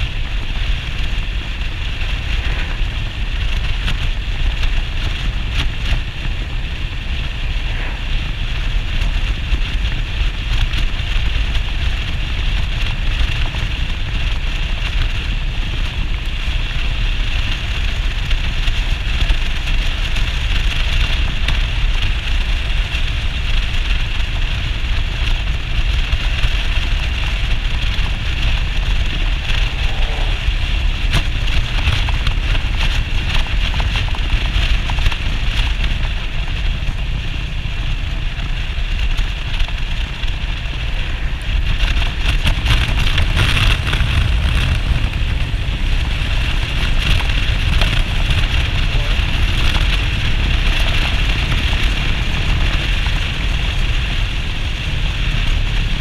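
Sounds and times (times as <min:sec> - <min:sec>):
motorcycle engine and road noise: 0:00.0 - 0:56.0
wind buffeting microphone: 0:00.0 - 0:56.0.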